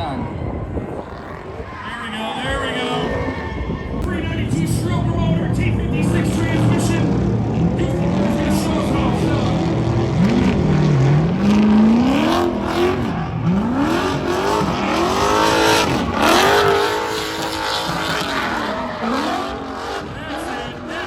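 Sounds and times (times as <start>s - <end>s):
car engine revving: 0.0s - 21.0s
tires squealing: 0.0s - 21.0s.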